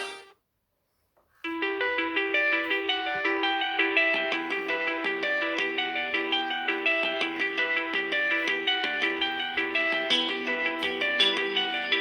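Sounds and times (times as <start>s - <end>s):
phone ringtone: 0.0s - 0.3s, 1.6s - 12.0s
plucked guitar-like ringtone melody: 1.6s - 12.0s.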